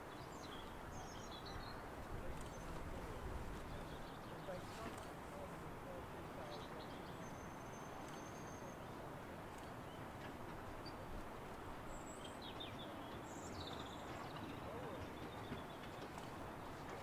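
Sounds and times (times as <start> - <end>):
outdoor background rush: 0.0 - 17.0
small birds chirping: 0.0 - 17.0.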